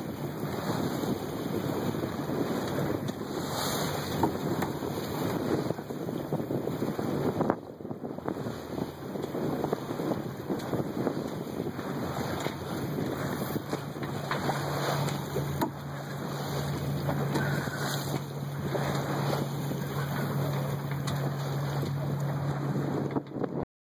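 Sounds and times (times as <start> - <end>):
water slapping against hull: 0.0 - 23.6
wind buffeting microphone: 0.0 - 23.6.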